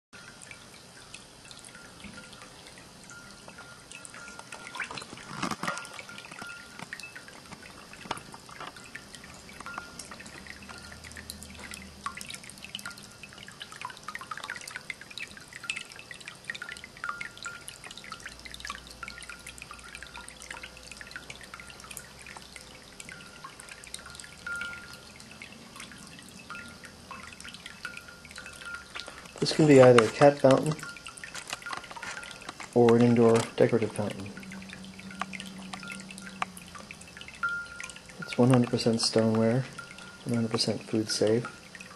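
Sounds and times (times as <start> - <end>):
water trickling and dripping: 0.2 - 41.9.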